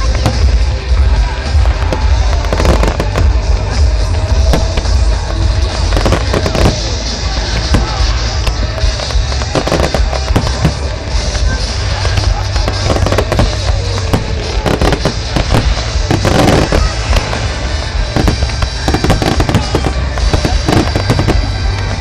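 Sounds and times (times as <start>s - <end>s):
fireworks bursting: 0.0s - 22.0s
fireworks crackling: 0.0s - 22.0s.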